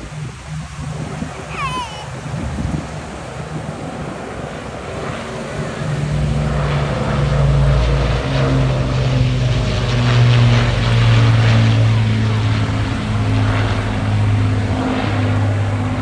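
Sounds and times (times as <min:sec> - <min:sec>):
propeller plane engines droning: 0:00.0 - 0:16.0
wind: 0:00.0 - 0:16.0.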